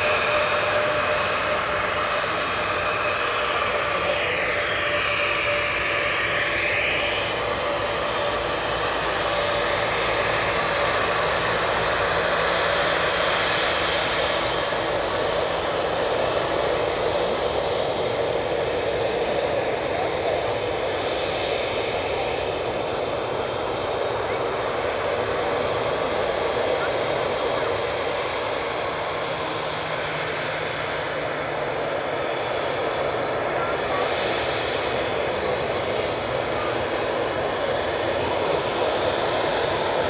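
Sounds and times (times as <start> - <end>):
jet engines whining at taxi: 0.0 - 40.0.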